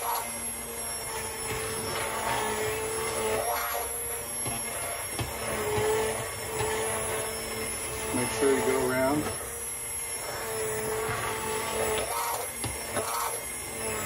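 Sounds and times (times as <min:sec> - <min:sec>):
stick blender motor whine: 0:00.0 - 0:14.0.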